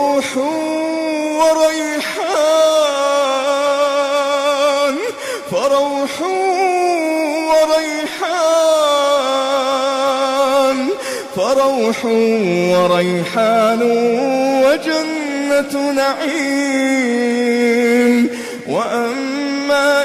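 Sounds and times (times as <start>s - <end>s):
man chanting recitation: 0.0s - 20.0s.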